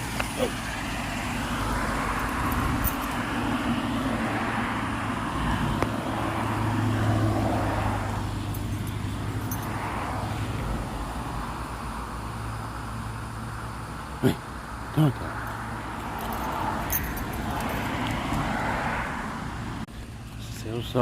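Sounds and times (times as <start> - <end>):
cars passing by: 0.0 - 21.0.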